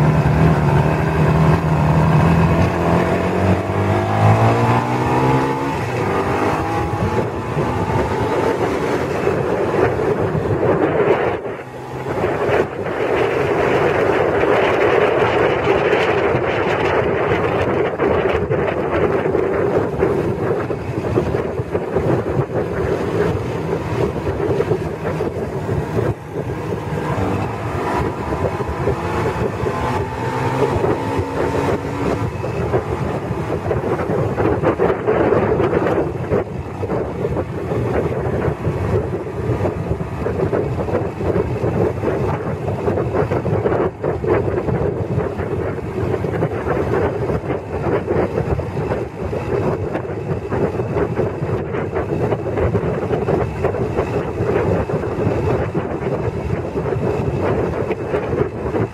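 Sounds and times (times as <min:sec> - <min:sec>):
motorcycle engine running: 0:00.0 - 0:58.9
wind buffeting microphone: 0:00.0 - 0:58.9.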